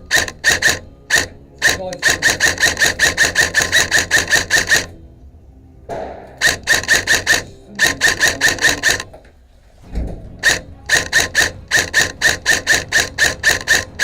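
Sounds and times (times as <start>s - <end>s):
airsoft gun firing: 0.0s - 4.9s, 5.9s - 9.2s, 10.4s - 14.0s.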